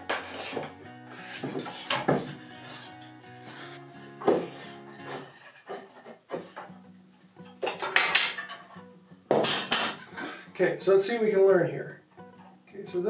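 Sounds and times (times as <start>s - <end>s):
faint background music: 0.0s - 5.5s, 6.2s - 13.0s.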